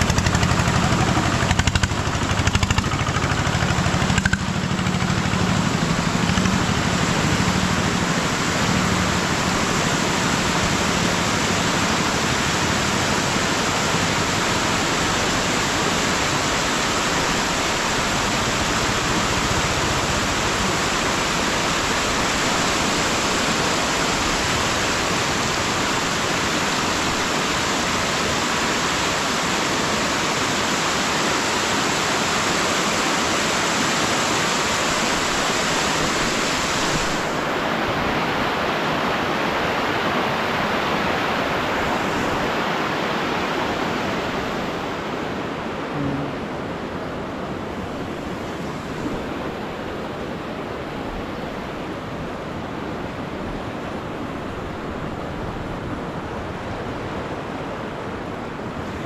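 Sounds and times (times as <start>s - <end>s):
floodwater rushing: 0.0s - 59.0s
low engine hum: 0.0s - 59.0s.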